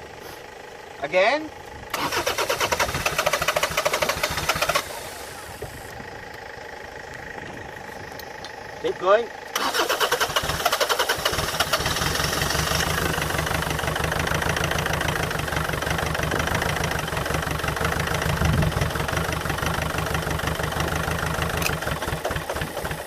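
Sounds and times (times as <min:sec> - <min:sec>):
diesel engine cranking by starter: 0:00.0 - 0:23.0.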